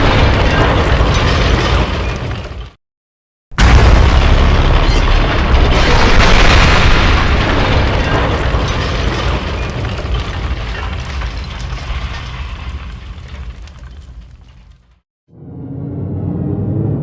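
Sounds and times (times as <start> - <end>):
explosion blast: 0.0 - 2.7, 3.5 - 14.8.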